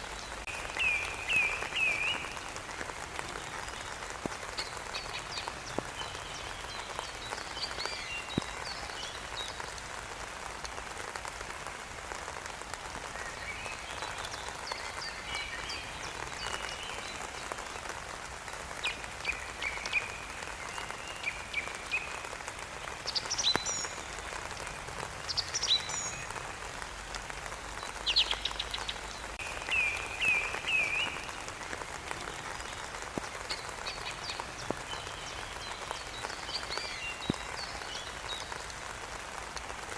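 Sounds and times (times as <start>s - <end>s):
songbirds chirping: 0.0s - 39.9s
steady rain: 0.0s - 39.9s.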